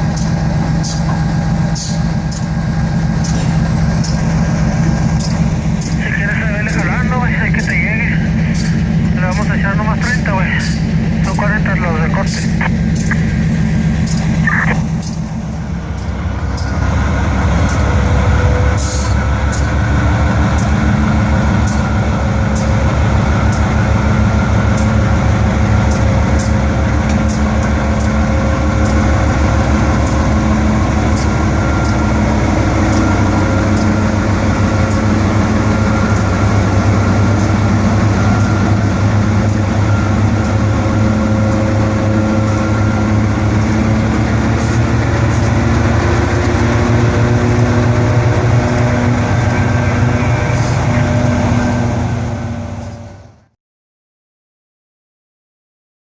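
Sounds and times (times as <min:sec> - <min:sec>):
diesel locomotive engine running: 0:00.0 - 0:53.6.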